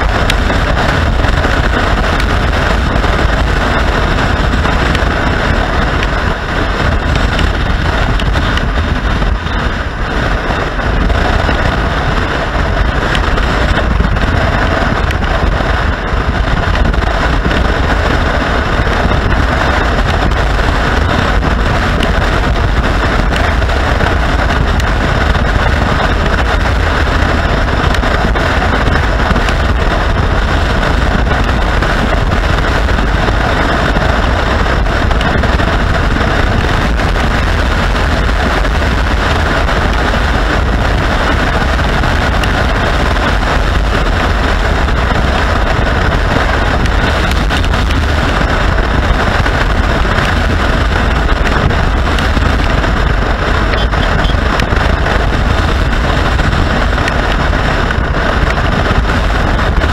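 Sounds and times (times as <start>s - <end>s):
motorcycle engine: 0.0s - 59.9s
wind rush over microphone: 0.0s - 59.9s.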